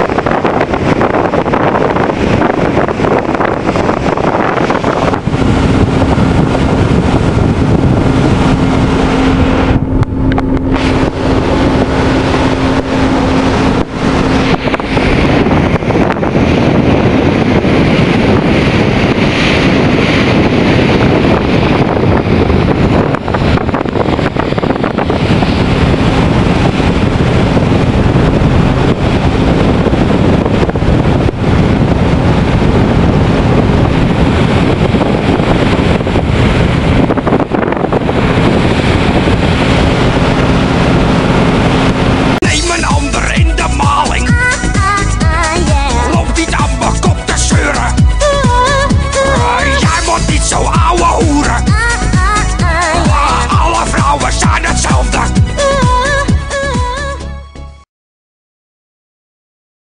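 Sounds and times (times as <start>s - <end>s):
steady low hum: 0.0s - 57.2s
sea: 0.0s - 57.4s
wind buffeting microphone: 0.0s - 57.4s
ship engines: 0.0s - 57.8s.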